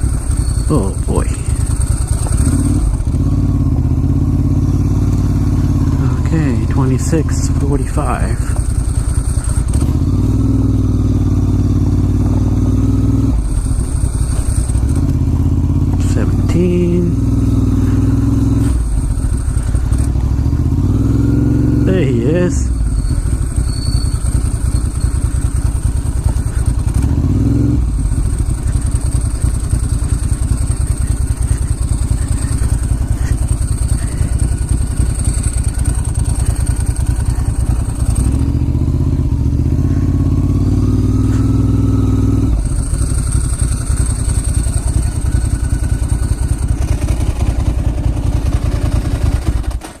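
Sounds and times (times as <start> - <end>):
motorcycle engine running at low speed: 0.0 - 50.0.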